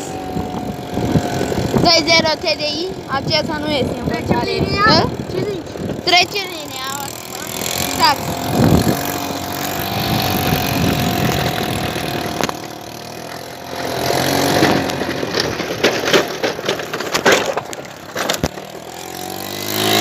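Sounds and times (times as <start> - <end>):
scooter engine running: 0.0 - 20.0
sharp knocks and rattles: 0.4 - 20.0.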